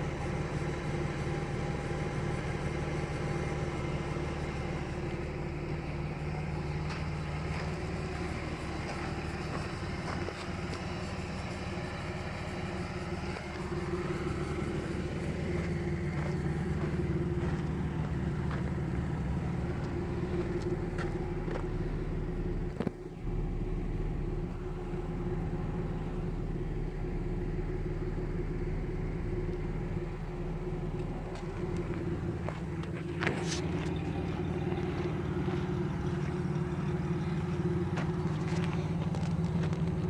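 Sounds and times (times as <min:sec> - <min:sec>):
car engine misfiring: 0:00.0 - 0:40.0.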